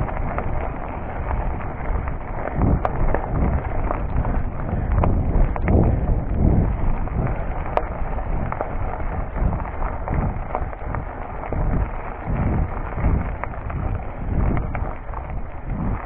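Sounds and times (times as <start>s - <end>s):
bike clicks and rattles: 0.0s - 16.0s
tyres crunching on gravel: 0.0s - 16.0s
wind buffeting microphone: 0.0s - 16.0s.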